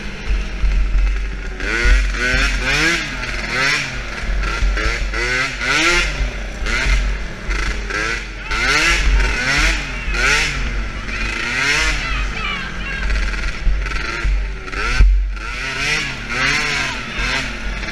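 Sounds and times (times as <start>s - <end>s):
quad engine revving: 0.0s - 17.9s.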